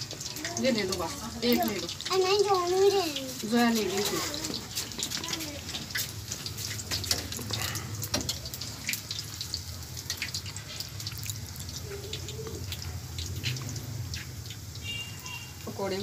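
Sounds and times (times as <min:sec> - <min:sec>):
food deep-frying in oil: 0:00.0 - 0:16.0
oil crackling and popping: 0:00.0 - 0:16.0.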